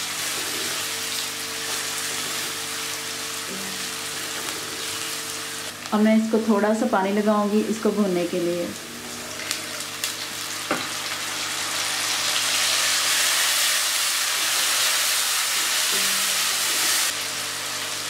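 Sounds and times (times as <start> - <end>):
oil sizzling in pan: 0.0 - 6.5, 7.5 - 18.0.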